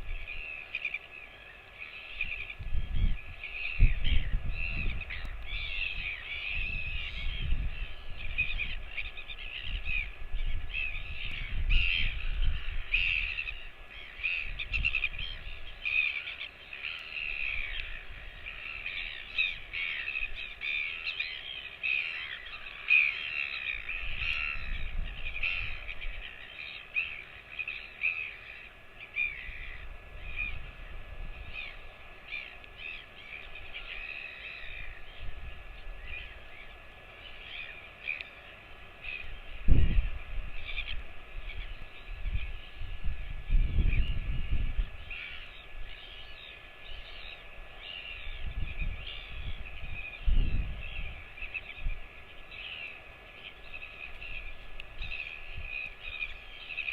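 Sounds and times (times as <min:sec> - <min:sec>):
birds chattering: 0:00.0 - 0:42.9, 0:43.6 - 0:56.9.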